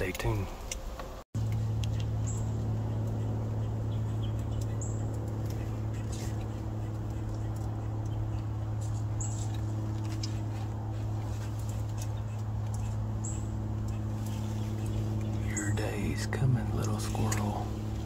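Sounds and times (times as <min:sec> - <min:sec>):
steady low hum: 0:00.0 - 0:18.0
squirrel rustling in dry leaves: 0:01.5 - 0:18.0.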